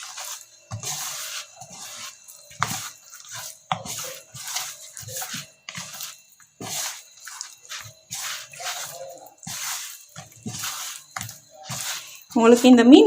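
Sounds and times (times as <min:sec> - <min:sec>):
hands squishing wet food: 0:00.0 - 0:12.6.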